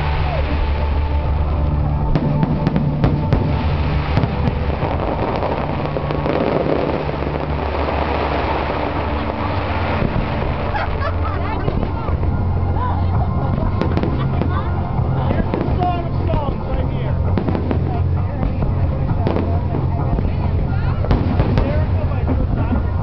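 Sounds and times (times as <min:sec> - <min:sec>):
fireworks bursting: 0:00.0 - 0:23.0
fireworks crackling: 0:00.0 - 0:23.0
low rumble: 0:00.0 - 0:23.0.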